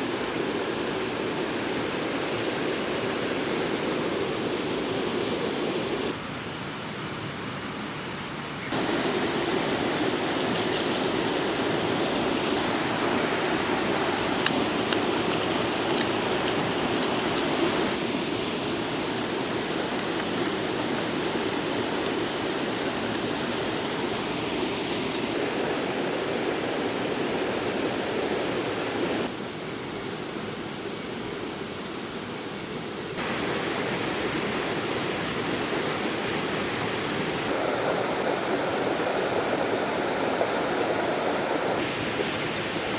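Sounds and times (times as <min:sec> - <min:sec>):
river water rushing: 0:00.0 - 0:06.2, 0:08.7 - 0:29.3, 0:33.2 - 0:42.9.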